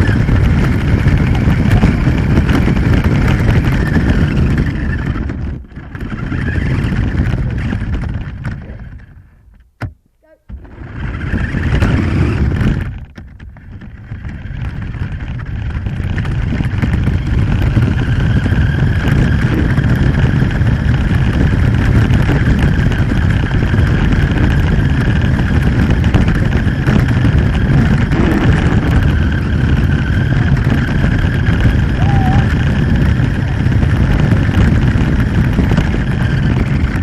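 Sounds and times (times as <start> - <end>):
toy car motor whine: 0.0 - 9.1, 10.5 - 13.1, 13.9 - 37.0
wheels rumbling and rattling: 0.0 - 37.0.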